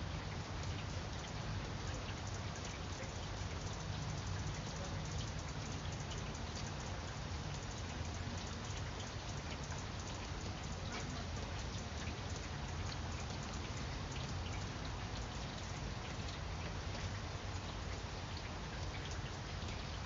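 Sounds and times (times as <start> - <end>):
low steady rumble: 0.0 - 20.0
rain falling on leaves: 0.0 - 20.0.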